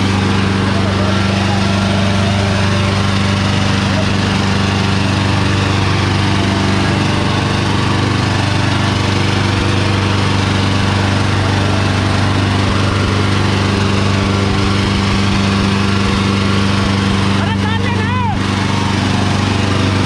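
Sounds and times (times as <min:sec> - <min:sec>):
tractor diesel engine labouring: 0:00.0 - 0:20.0.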